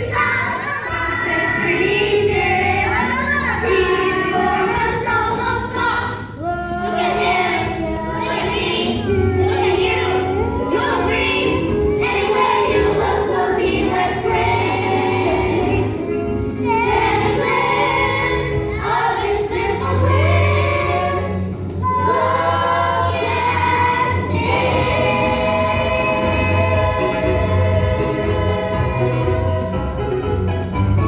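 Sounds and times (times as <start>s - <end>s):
children's chorus singing: 0.0s - 30.0s
instrumental accompaniment: 0.1s - 31.0s.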